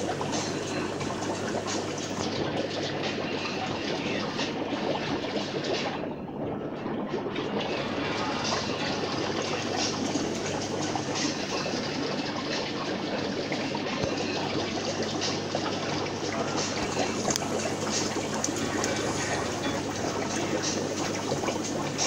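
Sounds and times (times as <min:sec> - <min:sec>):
aquarium water bubbling: 0:00.0 - 0:22.0.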